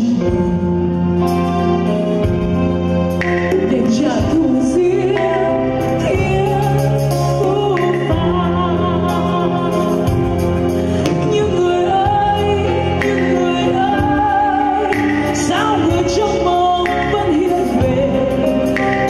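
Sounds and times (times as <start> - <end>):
woman singing into microphone: 0.0 - 1.4, 3.4 - 19.0
live band playing: 0.0 - 19.0.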